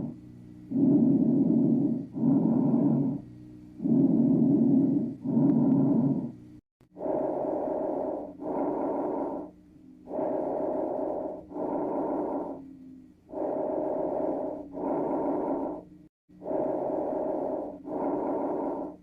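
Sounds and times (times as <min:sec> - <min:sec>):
breath sounds through stethoscope: 0:00.0 - 0:03.2, 0:03.8 - 0:19.0.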